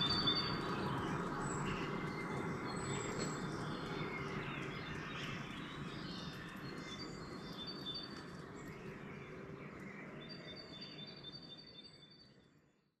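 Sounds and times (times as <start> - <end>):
ambient background noise: 0.0 - 12.7
songbirds singing: 0.0 - 12.7.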